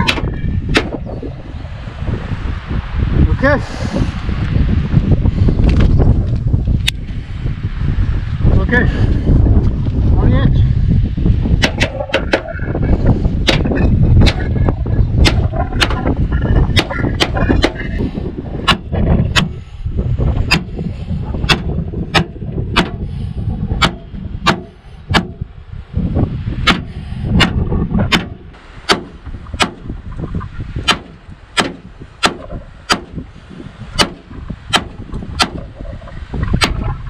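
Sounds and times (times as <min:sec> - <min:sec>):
heavy low rumble: 0:00.0 - 0:37.0.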